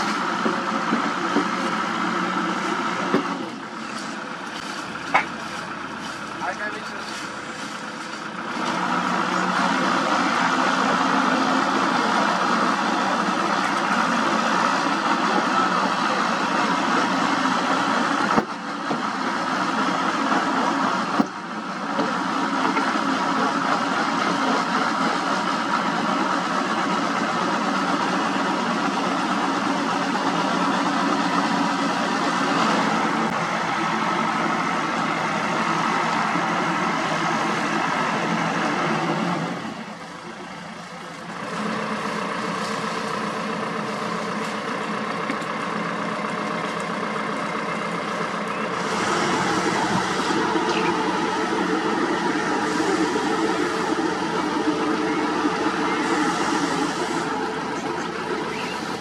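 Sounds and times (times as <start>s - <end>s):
paving machinery engine drone: 0.0s - 59.0s.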